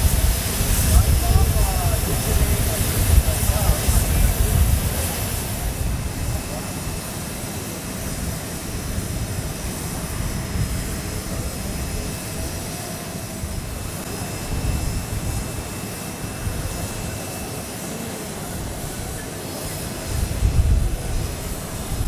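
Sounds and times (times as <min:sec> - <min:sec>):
wind rumbling on microphone: 0:00.0 - 0:17.4, 0:18.4 - 0:22.0
aircraft noise with high whine: 0:00.0 - 0:22.0.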